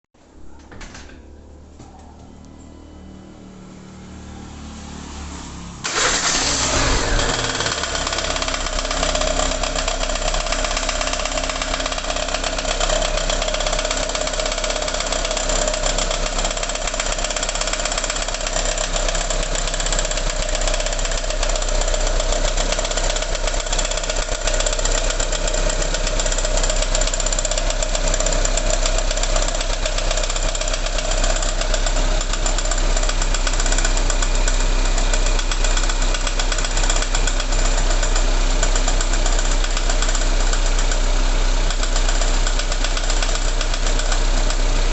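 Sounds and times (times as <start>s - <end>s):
petrol engine starting and running: 0.6s - 44.9s.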